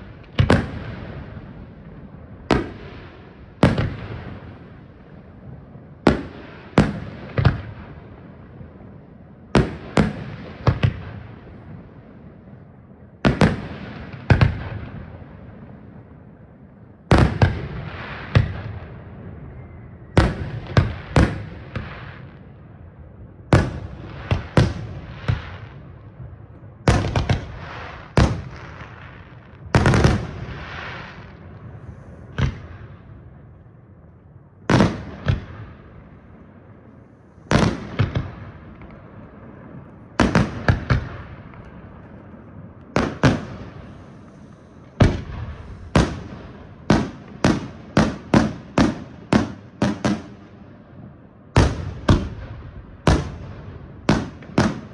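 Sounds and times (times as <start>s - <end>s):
fireworks bursting with bangs: 0.0s - 22.7s, 23.4s - 33.5s, 34.6s - 54.9s.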